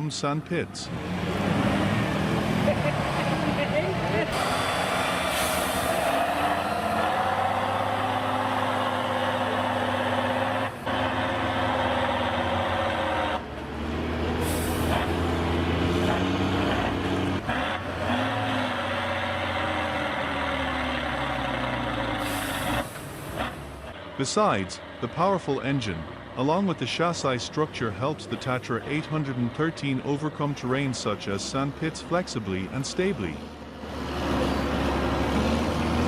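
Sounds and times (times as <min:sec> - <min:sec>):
diesel truck engine labouring: 0:00.0 - 0:36.0.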